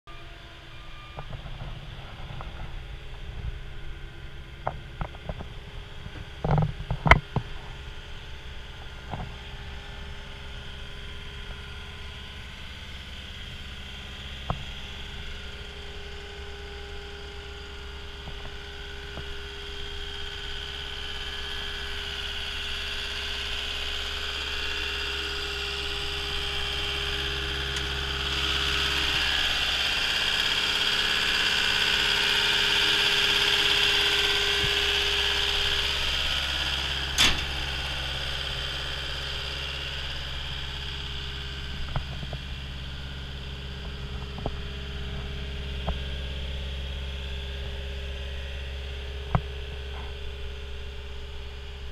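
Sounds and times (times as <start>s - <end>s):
diesel engine idling: 0.1s - 51.9s.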